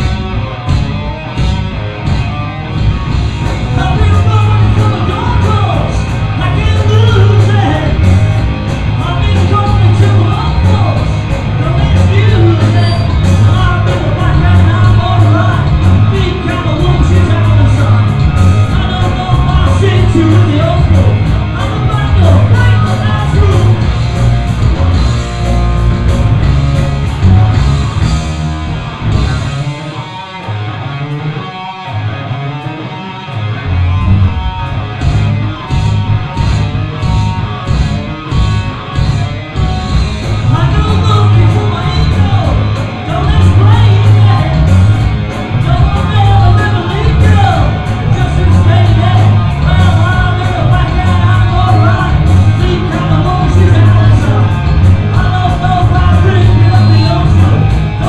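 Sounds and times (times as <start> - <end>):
electric guitar: 0.0 - 58.0
hard rock band playing: 0.0 - 58.0.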